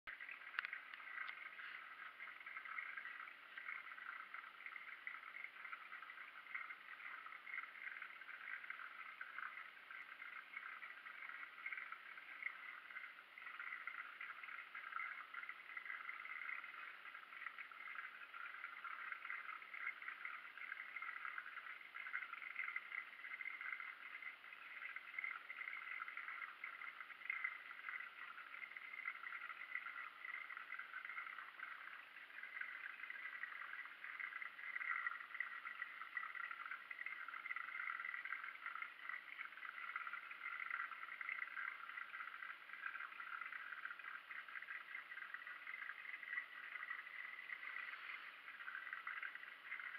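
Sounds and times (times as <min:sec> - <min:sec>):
aquarium water bubbling: 0:00.1 - 0:49.9.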